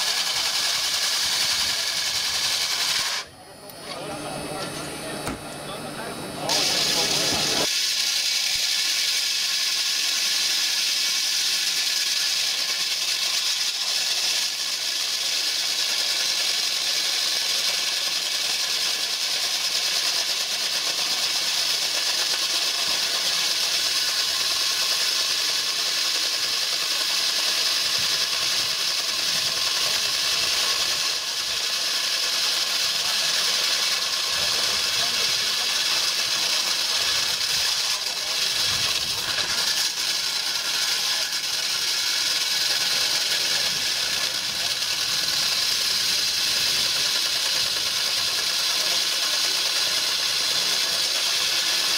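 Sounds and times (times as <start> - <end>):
power pack engine running: 0.0 - 7.7, 8.4 - 51.9
core drill grinding concrete: 0.0 - 51.9.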